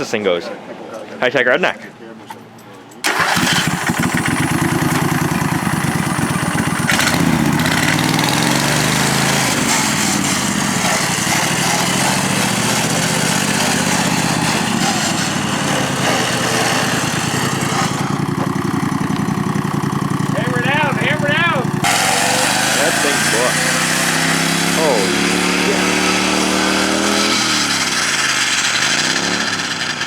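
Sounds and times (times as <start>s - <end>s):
lawn tractor engine running hard: 3.0s - 30.0s.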